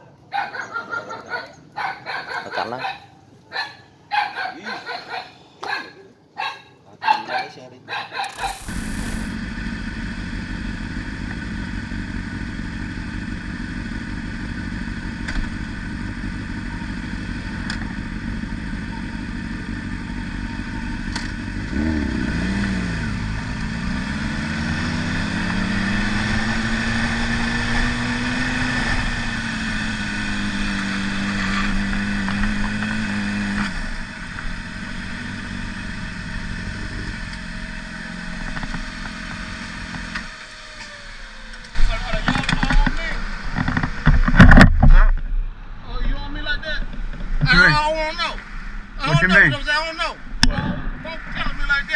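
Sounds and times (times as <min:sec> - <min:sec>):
wind and road noise: 0:07.9 - 0:51.9
motorcycle engine accelerating: 0:08.2 - 0:51.9.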